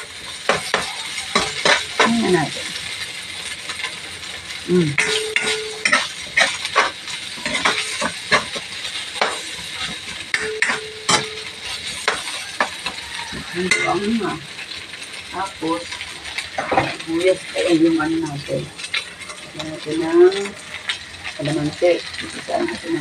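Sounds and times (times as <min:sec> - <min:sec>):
spatula scraping a wok: 0:00.0 - 0:19.8
food sizzling: 0:00.0 - 0:23.0.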